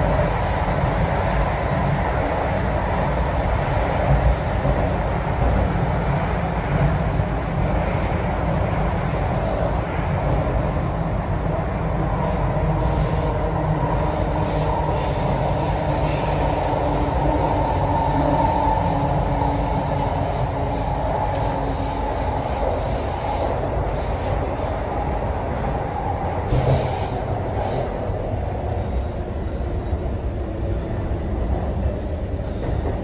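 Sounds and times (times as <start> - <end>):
metro train running: 0.0 - 33.0.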